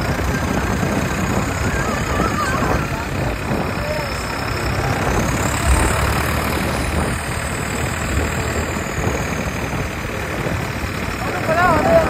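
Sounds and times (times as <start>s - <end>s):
road noise: 0.0s - 12.0s
tractor engine rumbling: 0.0s - 12.0s.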